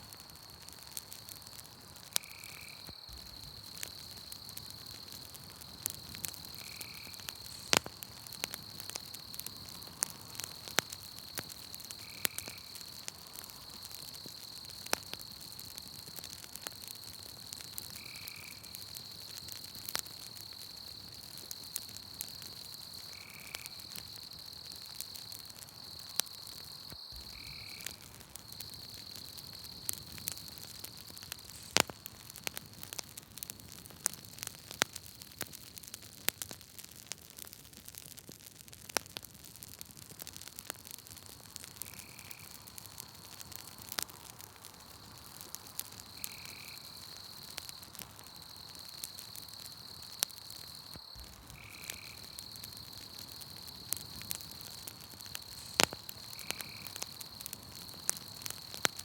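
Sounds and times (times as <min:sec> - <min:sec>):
campfire crackling and popping: 0:00.0 - 0:59.0
high insect trill: 0:02.1 - 0:32.7, 0:41.3 - 0:59.0.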